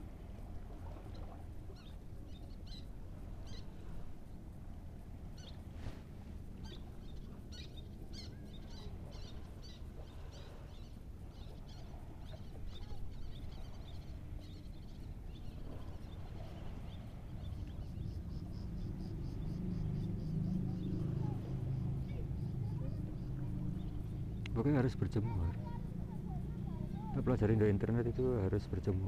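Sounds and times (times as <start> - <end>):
low engine hum: 0.0 - 29.0
wind and sea rumble: 0.0 - 29.0.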